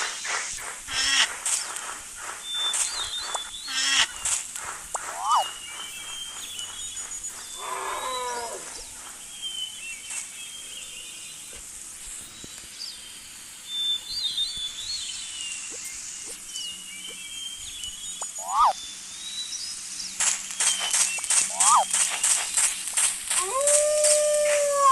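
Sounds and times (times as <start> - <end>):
birds chirping: 0.0 - 24.9
faint outdoor background: 0.0 - 24.9.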